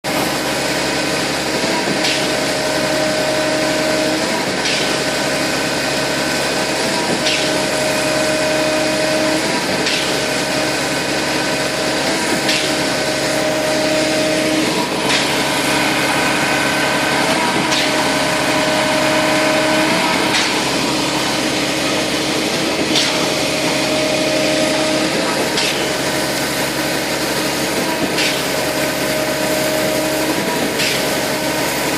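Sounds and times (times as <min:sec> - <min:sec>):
hydraulic pump whine: 0:00.0 - 0:31.9
sharp clack of pump cylinders: 0:01.3 - 0:31.9.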